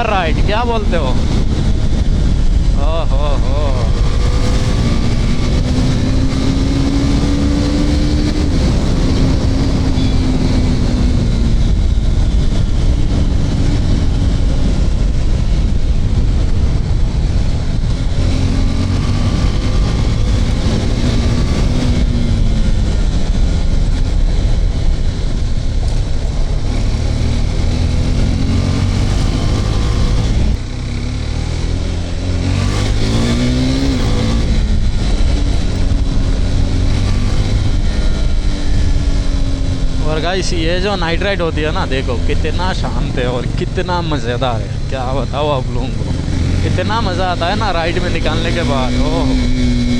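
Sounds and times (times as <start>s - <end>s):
motorcycle engine accelerating: 0.0s - 49.9s
wind rush: 0.0s - 49.9s.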